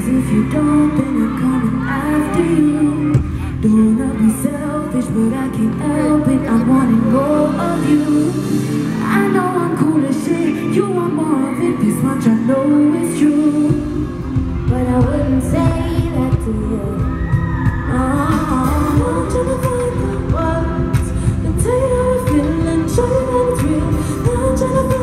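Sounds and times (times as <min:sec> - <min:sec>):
live pop music: 0:00.0 - 0:25.0
women singing: 0:00.0 - 0:25.0.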